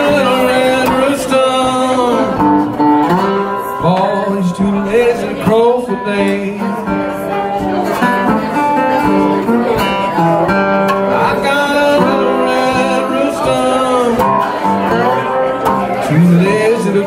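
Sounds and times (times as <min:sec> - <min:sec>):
man singing: 0:00.0 - 0:08.5, 0:10.5 - 0:17.0
resonator guitar playing blues: 0:00.0 - 0:17.0.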